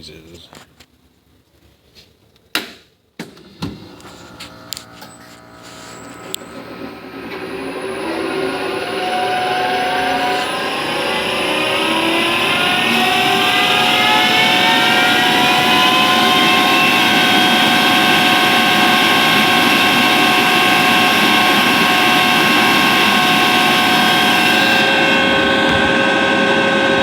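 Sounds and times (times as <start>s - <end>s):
air compressor running: 3.2s - 27.0s
high-pitched whining tones: 4.5s - 27.0s.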